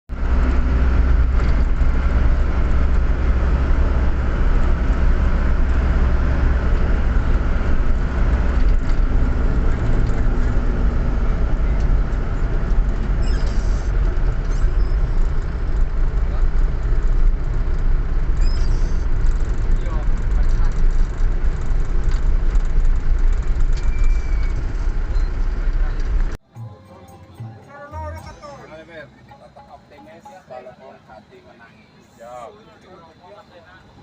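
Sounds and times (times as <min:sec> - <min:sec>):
bus engine and road rumble: 0:00.1 - 0:26.6, 0:27.2 - 0:34.0.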